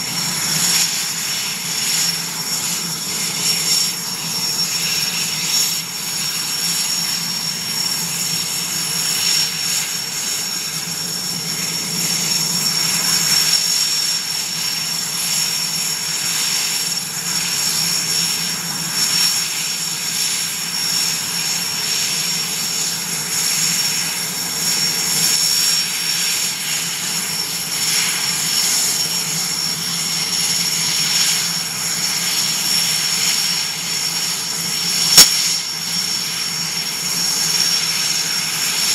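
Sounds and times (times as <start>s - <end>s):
helicopter engine whine: 0.0s - 38.9s
helicopter rotor noise: 0.0s - 38.9s.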